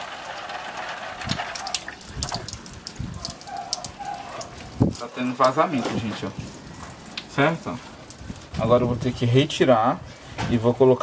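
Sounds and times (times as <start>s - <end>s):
water trickling into a jar: 0.0s - 9.4s
water dripping and splashing: 0.0s - 11.0s.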